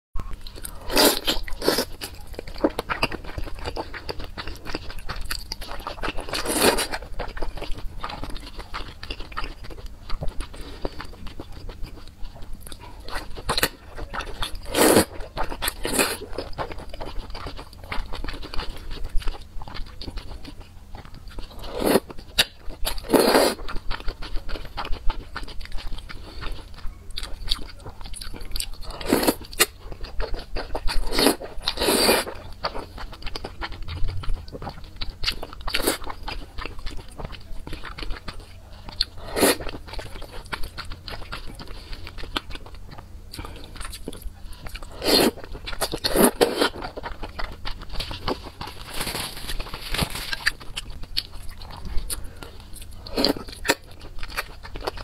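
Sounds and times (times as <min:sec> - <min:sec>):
wet chewing and smacking: 0:00.2 - 0:55.0.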